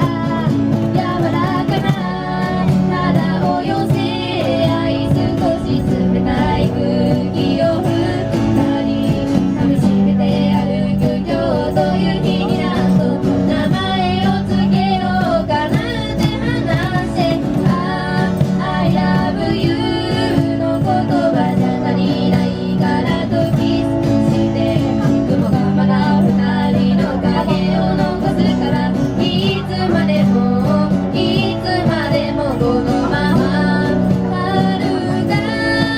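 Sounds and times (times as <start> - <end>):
guitar accompaniment: 0.0 - 35.9
steady bass line: 0.0 - 35.9
woman singing: 0.0 - 35.9.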